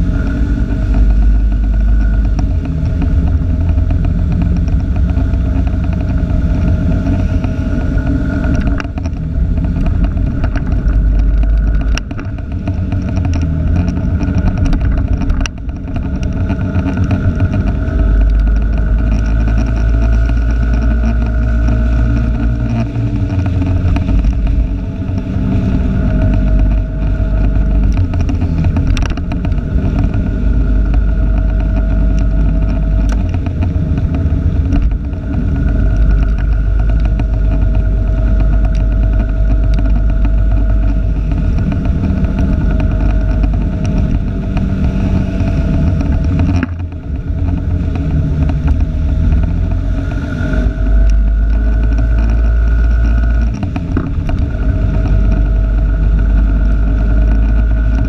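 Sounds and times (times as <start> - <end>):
heavy low rumble: 0.0 - 58.0
vehicle engine and road noise: 0.0 - 58.0.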